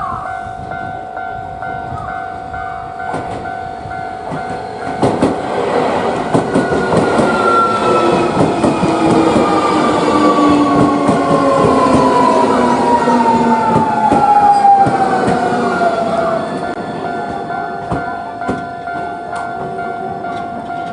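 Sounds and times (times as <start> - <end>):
train wheels clattering over rails: 3.1 - 3.5, 4.2 - 20.9.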